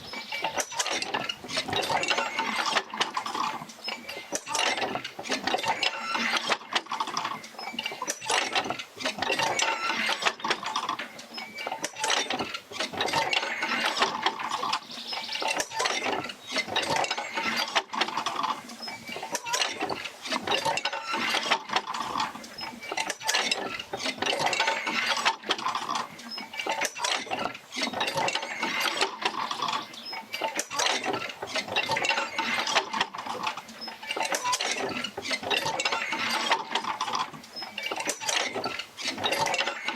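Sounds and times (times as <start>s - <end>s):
oil field wheel clanking: 0.0s - 39.9s.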